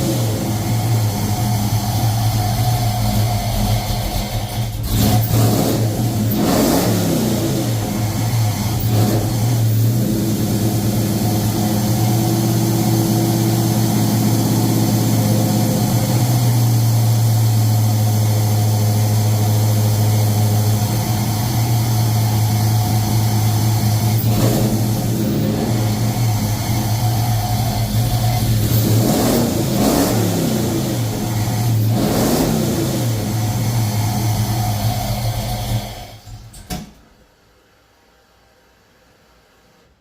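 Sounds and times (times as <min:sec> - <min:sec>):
pickup truck engine revving and idling: 0:00.0 - 0:36.4.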